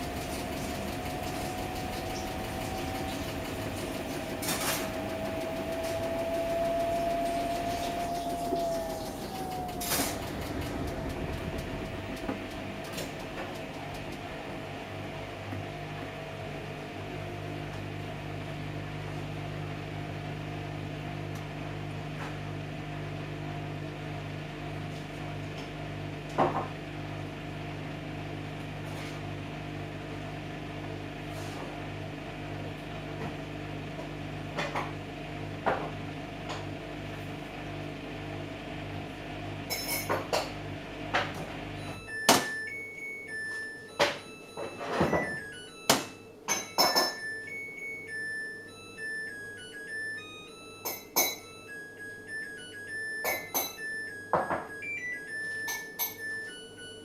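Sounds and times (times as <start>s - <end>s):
microwave oven humming: 0.0s - 57.0s.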